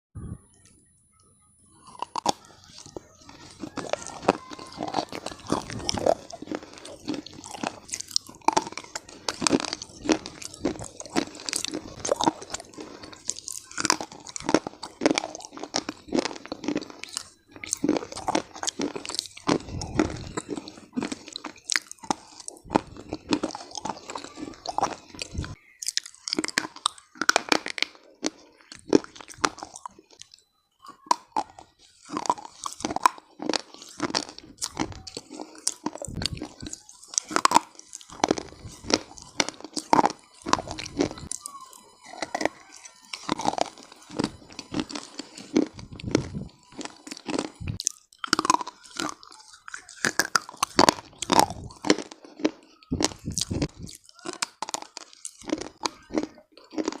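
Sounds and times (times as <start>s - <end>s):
chewing crunchy clay: 1.8s - 57.0s.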